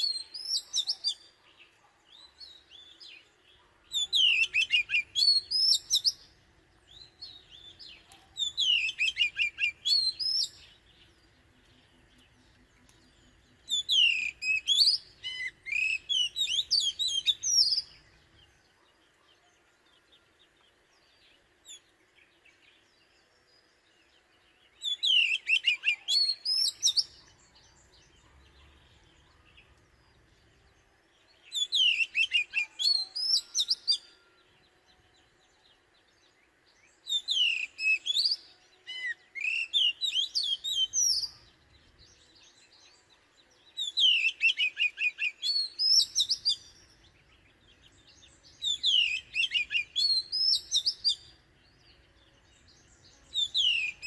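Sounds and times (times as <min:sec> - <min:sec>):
bird whistled song: 0:00.0 - 0:20.3, 0:21.0 - 0:30.6, 0:31.2 - 0:54.0.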